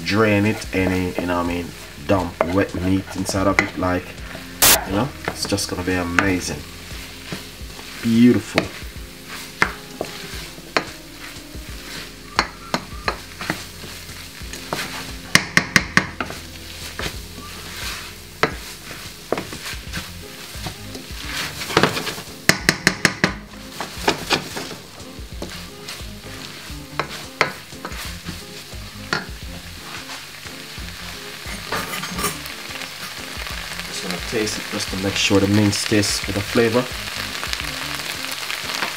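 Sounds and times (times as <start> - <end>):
food sizzling: 0.0 - 38.9
wooden spoon scraping a pan: 0.0 - 38.9.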